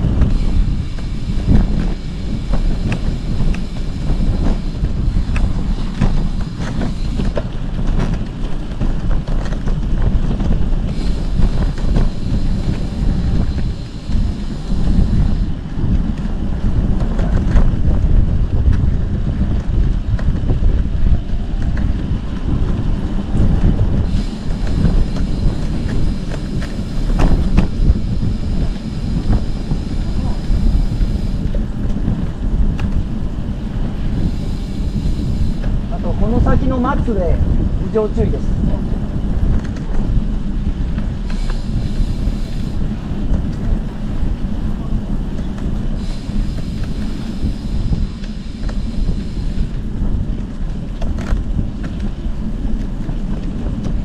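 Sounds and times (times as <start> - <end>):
low rumble of travel: 0.0 - 54.0
wind buffeting microphone: 0.0 - 54.0.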